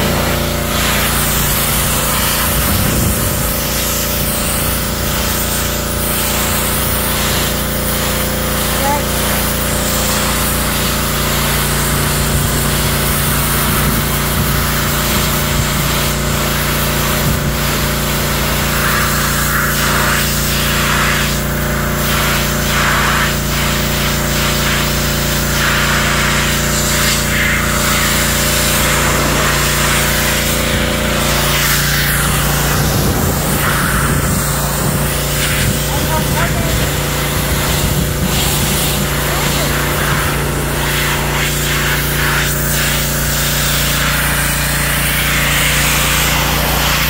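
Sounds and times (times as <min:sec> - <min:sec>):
pressure washer spraying car: 0:00.0 - 0:47.0.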